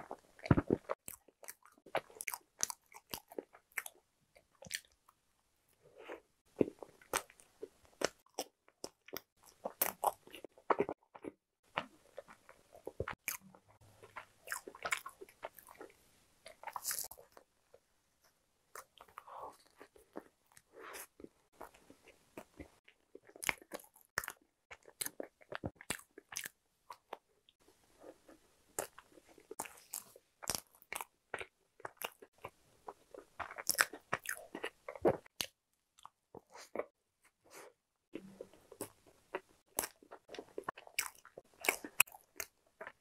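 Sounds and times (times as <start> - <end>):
chewing soft bread: 0.0 - 43.0.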